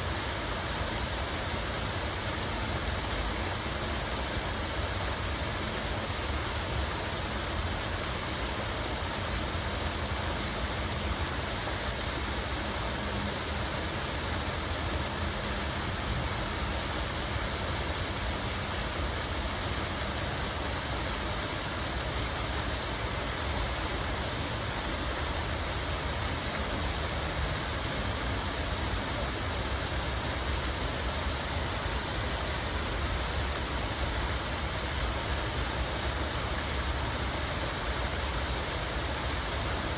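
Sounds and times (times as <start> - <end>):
falling water splashing: 0.0 - 39.9.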